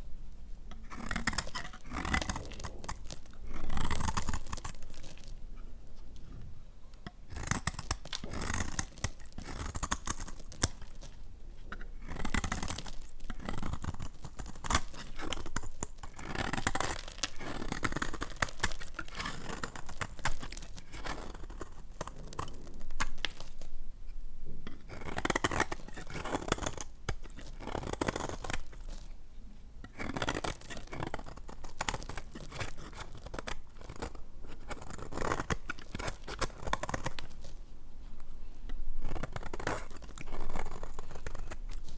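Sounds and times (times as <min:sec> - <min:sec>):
knife cutting through hard soap: 0:00.8 - 0:05.4, 0:07.0 - 0:23.7, 0:24.7 - 0:29.1, 0:29.8 - 0:37.6, 0:39.0 - 0:41.9.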